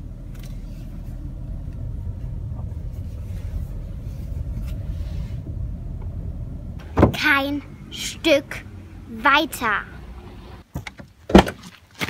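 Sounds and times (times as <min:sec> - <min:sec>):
car engine and tyres rumbling: 0:00.0 - 0:11.4.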